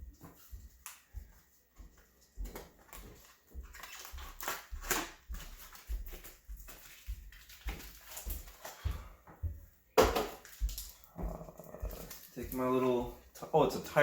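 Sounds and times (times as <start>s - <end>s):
rubber tube rustling and crinkling: 0.0s - 9.4s, 10.1s - 14.0s.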